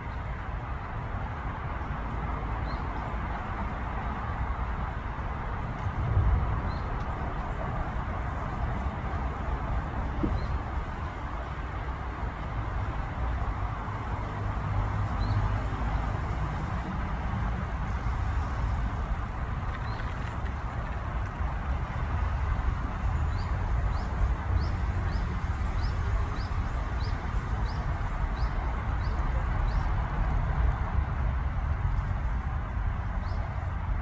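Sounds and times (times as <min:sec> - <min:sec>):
outdoor rumble and hiss: 0:00.0 - 0:34.0.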